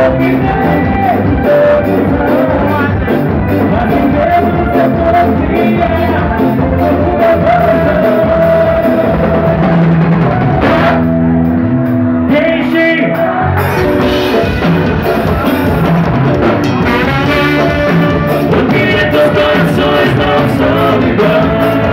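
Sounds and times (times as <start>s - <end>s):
drums and cymbals: 0.0s - 11.2s, 13.2s - 21.9s
person singing: 0.0s - 11.3s, 12.3s - 21.9s
live band playing: 0.0s - 21.9s.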